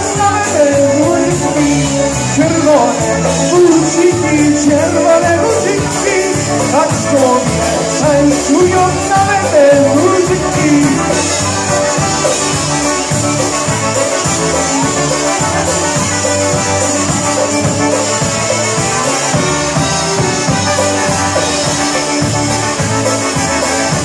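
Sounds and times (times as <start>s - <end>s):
live band playing: 0.0s - 24.0s
sung or horn melody: 0.0s - 24.0s.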